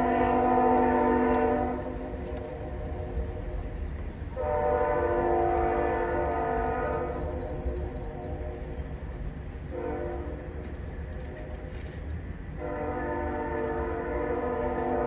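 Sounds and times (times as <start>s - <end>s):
train horn blast: 0.0s - 9.0s, 9.6s - 15.0s.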